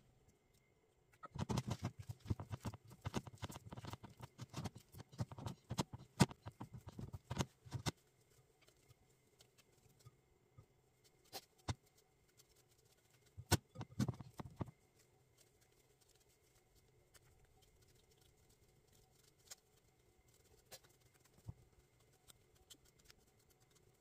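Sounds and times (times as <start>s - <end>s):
hands squishing dough: 1.2s - 24.0s.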